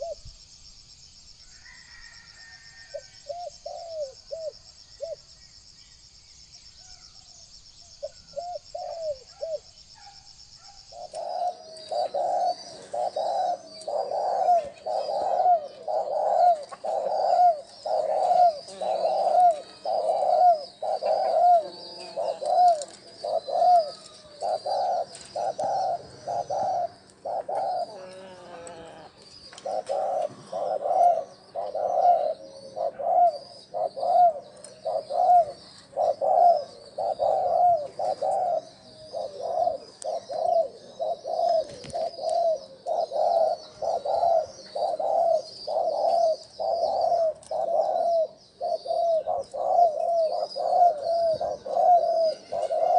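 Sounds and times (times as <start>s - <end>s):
dove cooing: 0.0s - 0.3s, 1.6s - 5.3s, 8.0s - 52.9s
small birds chirping: 0.0s - 52.9s.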